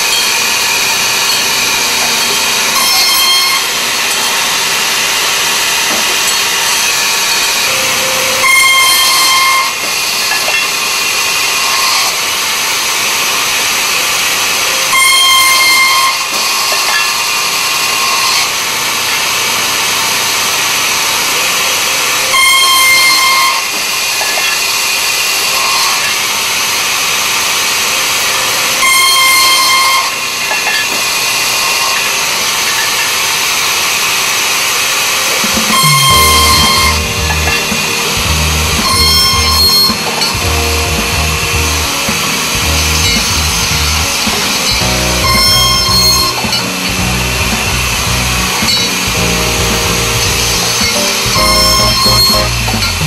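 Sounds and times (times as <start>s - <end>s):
saw blade screeching through pipe: 0.0s - 49.2s, 50.2s - 53.0s
circular saw running: 0.0s - 53.0s.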